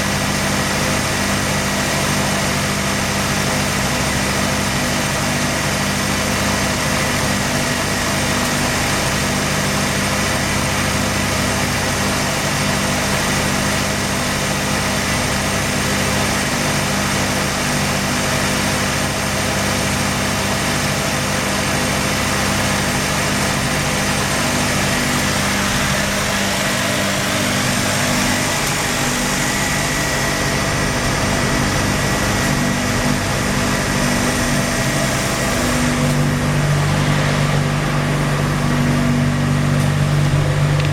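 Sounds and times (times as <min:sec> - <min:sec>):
rotary engine idling roughly: 0:00.0 - 0:40.9.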